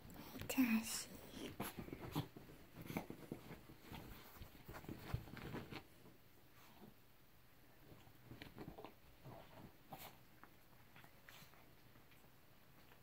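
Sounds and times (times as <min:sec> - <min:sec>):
animals scuffling on bedspread: 0:00.0 - 0:13.0.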